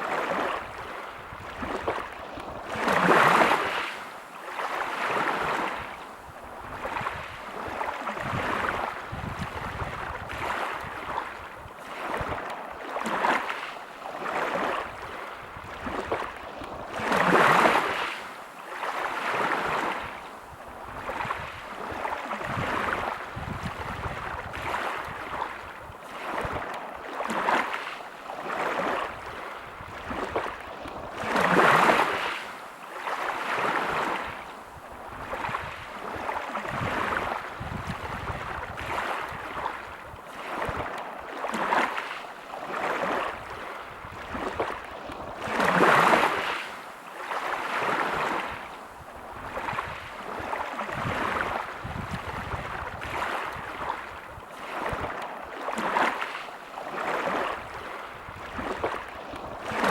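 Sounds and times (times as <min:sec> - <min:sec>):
waves breaking on pebble beach: 0:00.0 - 0:20.2, 0:20.9 - 0:59.9.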